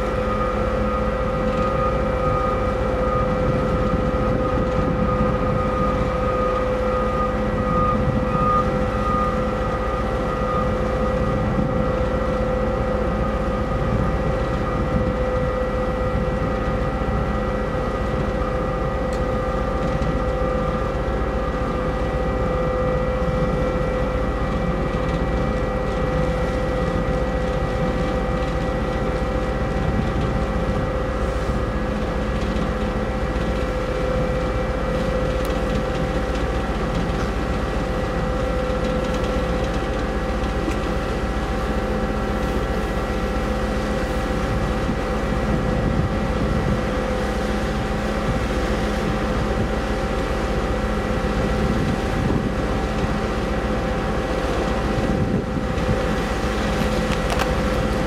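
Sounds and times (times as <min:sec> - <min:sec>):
low ship engine rumble: 0:00.0 - 0:58.0
machinery hums: 0:00.0 - 0:58.0.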